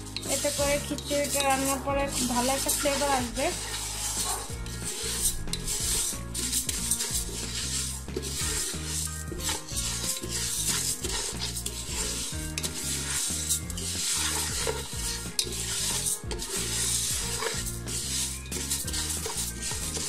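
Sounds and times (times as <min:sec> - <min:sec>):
lentils scraping in a pan: 0:00.0 - 0:20.0.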